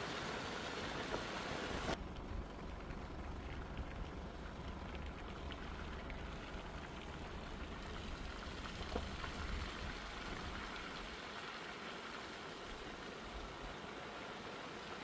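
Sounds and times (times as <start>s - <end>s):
light rain drops ticking: 0.0s - 15.0s.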